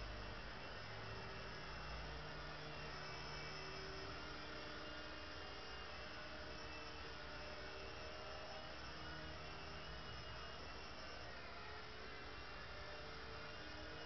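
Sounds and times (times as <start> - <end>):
small electric motors whirring: 0.0 - 14.0.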